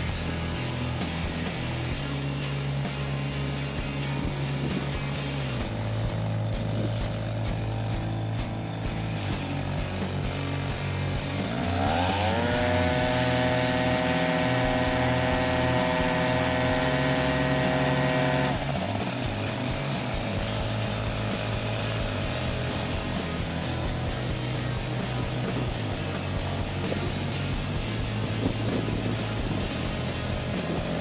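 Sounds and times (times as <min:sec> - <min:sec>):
paramotor engine and propeller: 0:00.0 - 0:31.0.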